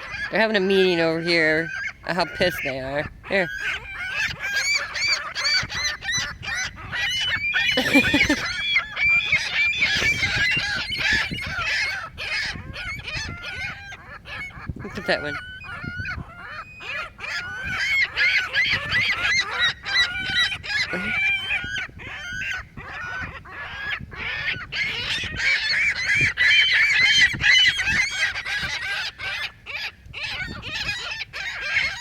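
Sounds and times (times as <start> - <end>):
seagulls squawking: 0.0 - 32.0.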